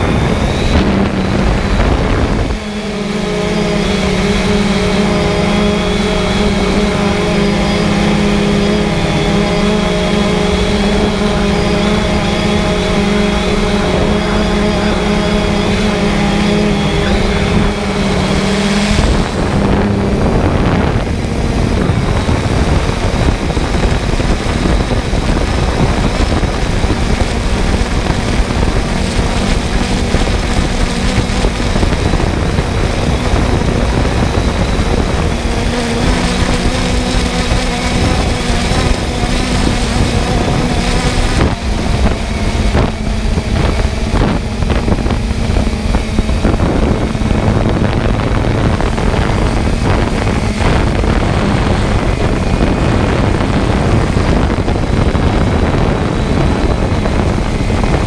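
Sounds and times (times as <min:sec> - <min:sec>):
drone motors and propellers: 0:00.0 - 0:58.0.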